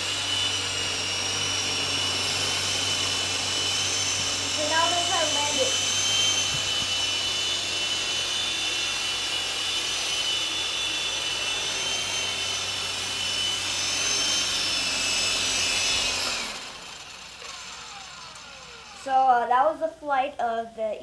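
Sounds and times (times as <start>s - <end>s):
toy helicopter rotors whining: 0.0s - 20.0s.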